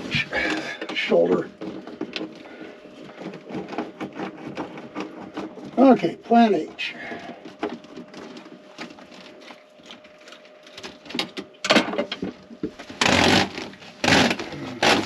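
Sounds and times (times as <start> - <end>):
loud rustling scrapes: 0.0 - 10.7, 12.8 - 15.0.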